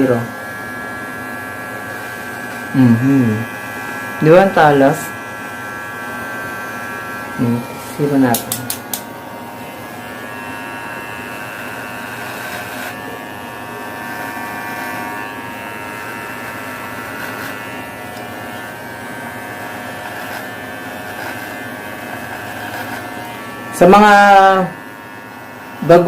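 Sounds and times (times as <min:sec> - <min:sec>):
electric hair clipper buzzing: 0:00.0 - 0:26.0.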